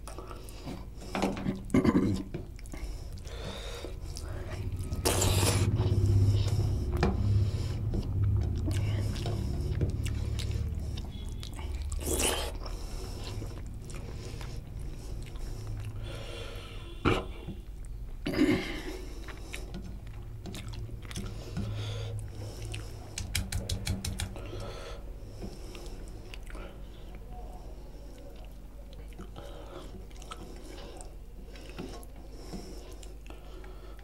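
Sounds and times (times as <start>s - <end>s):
man chewing and smacking: 0.0s - 16.1s, 17.1s - 24.6s, 25.4s - 27.3s, 28.1s - 34.0s.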